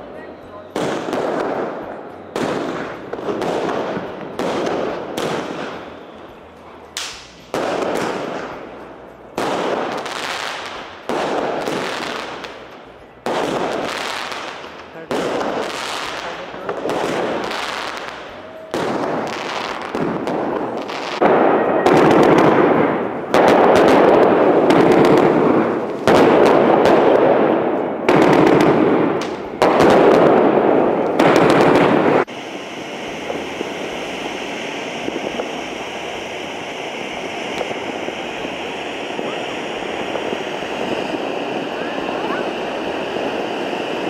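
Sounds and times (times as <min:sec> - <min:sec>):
firework fountain hissing: 0:00.0 - 0:44.0
fireworks crackling bursts: 0:00.0 - 0:44.0.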